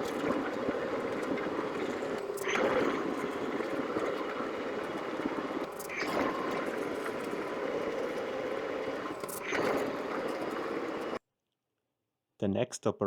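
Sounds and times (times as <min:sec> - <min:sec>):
lathe drill cutting metal: 0:00.0 - 0:11.2.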